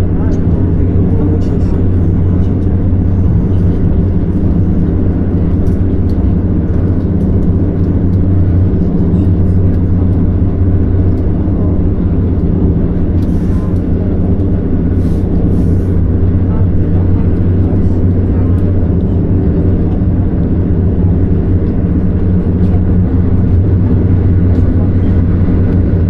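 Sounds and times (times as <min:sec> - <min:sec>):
vehicle engine and road hum: 0:00.0 - 0:26.0.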